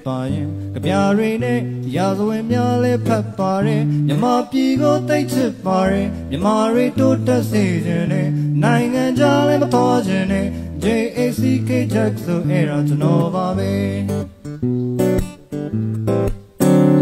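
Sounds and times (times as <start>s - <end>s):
man singing: 0.0s - 14.4s
acoustic guitar: 0.0s - 17.0s.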